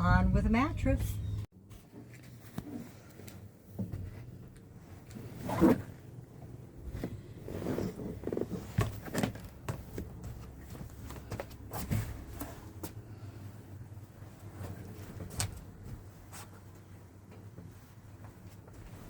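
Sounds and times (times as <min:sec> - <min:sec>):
foam mattress rustling and scuffing: 0:01.6 - 0:19.0.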